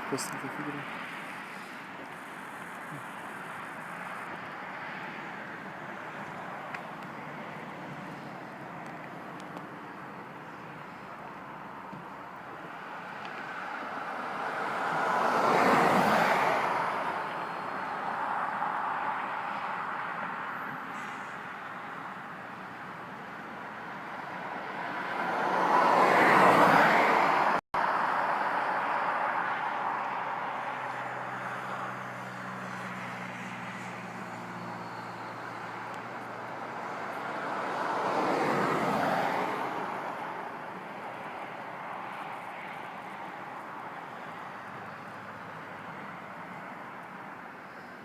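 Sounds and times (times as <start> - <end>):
vehicles passing on road: 0.0 - 48.0.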